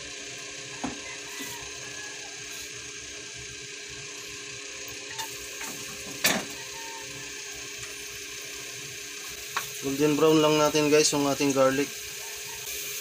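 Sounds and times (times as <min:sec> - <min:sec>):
oil hissing: 0:00.0 - 0:13.0.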